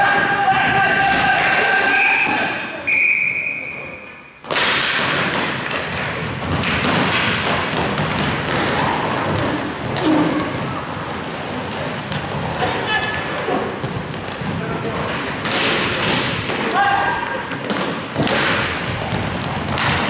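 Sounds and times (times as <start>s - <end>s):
hockey sticks and skates knocking: 0.0s - 2.7s, 4.4s - 20.0s.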